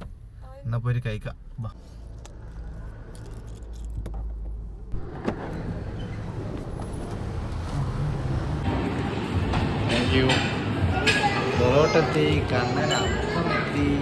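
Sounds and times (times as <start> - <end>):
passing street traffic: 1.4 - 14.0.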